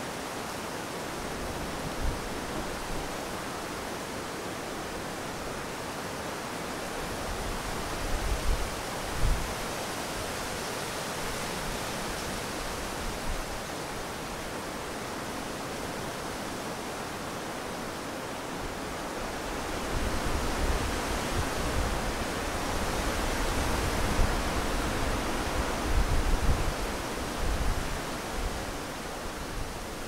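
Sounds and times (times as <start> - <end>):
wind rustling tree leaves: 0.0 - 30.0.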